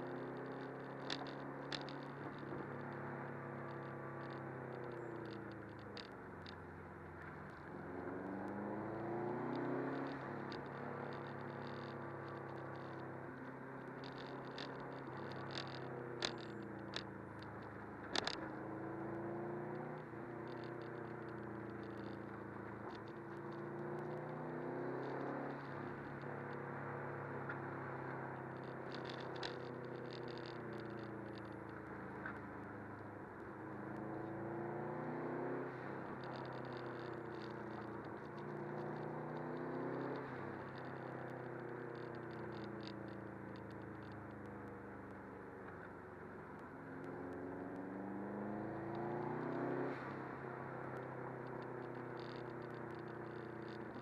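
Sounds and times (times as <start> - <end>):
car engine revving: 0.0 - 44.5, 46.5 - 54.0
tyre and road noise: 0.0 - 54.0.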